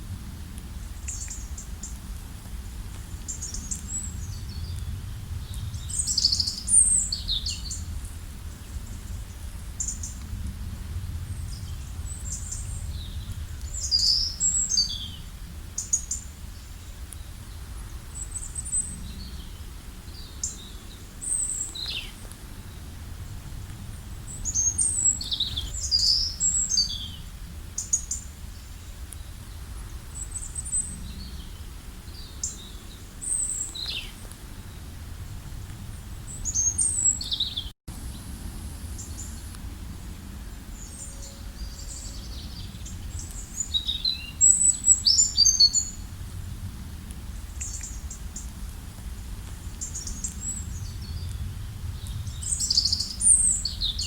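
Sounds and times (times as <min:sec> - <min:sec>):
songbirds chirping: 0:00.4 - 0:46.3, 0:47.0 - 0:54.0.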